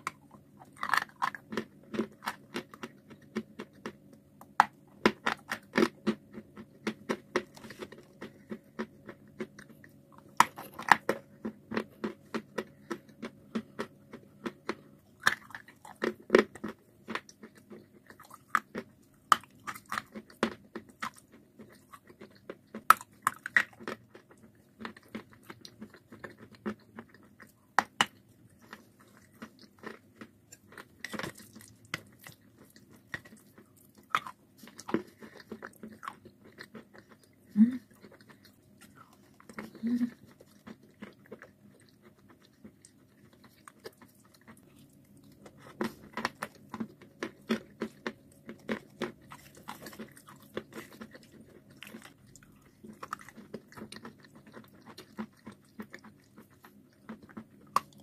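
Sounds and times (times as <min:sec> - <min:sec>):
crisp chewing crunches: 0:00.0 - 0:58.0.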